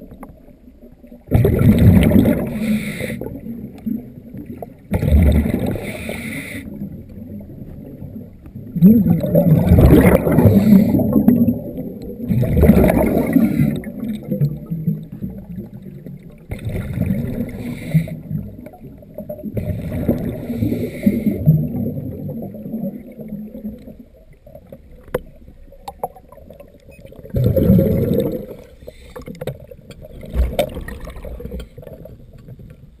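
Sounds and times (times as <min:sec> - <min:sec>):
underwater bubbles gurgling: 0:00.0 - 0:33.0.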